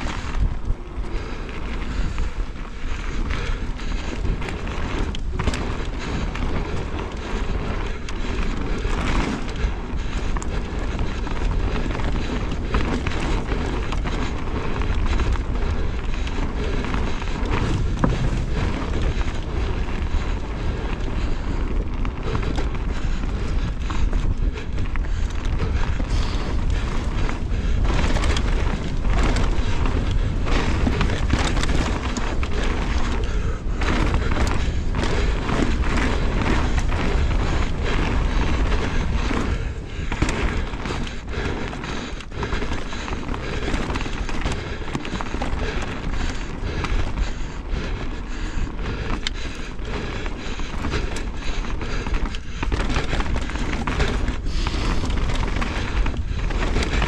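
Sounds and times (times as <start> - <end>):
bike frame and chain rattling: 0.0 - 57.0
tyres crunching over gravel: 0.0 - 57.0
wind rumble on microphone: 0.0 - 57.0.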